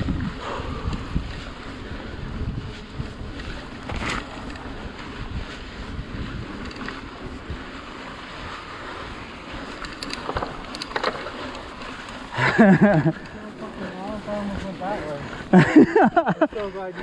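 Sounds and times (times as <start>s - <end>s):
bike tyres on dirt trail: 0.0s - 17.0s
wind rushing over microphone: 0.0s - 17.0s.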